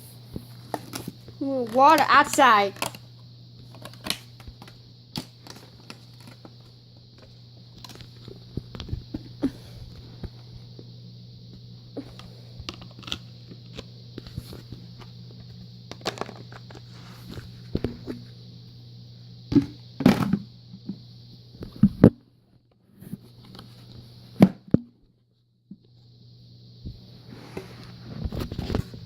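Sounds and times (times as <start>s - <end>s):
low hum with hiss: 0.0s - 29.0s.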